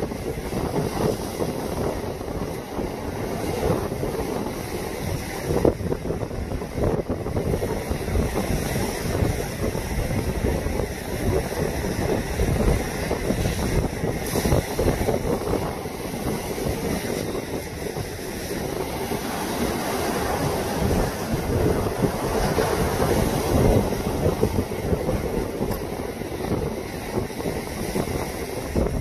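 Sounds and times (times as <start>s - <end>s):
waves breaking against a seawall: 0.0s - 29.0s
wind buffeting the microphone: 0.0s - 29.0s.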